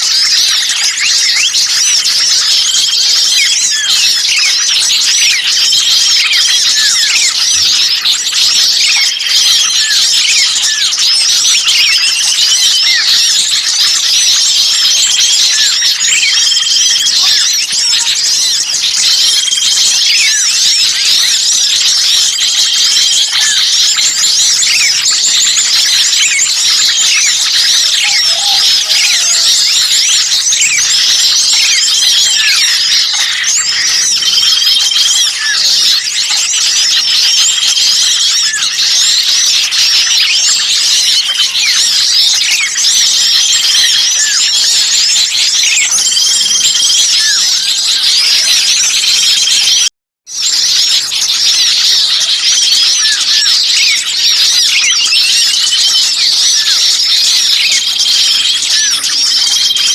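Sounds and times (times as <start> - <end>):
songbirds chirping: 0.0 - 49.8.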